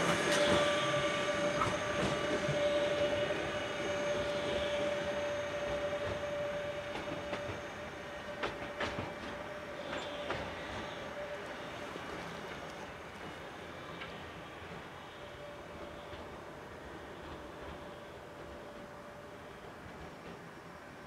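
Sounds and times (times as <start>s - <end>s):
electric locomotive whine and rumble: 0.0s - 21.0s.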